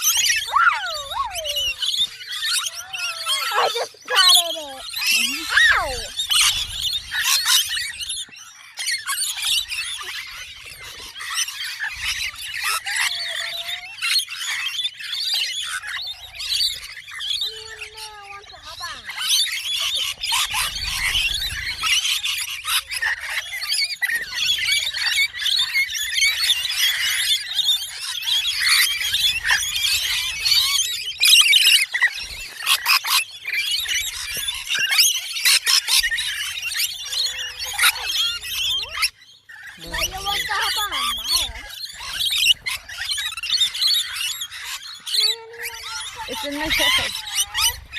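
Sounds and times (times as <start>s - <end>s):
small birds chirping and squawking: 0.0s - 47.9s.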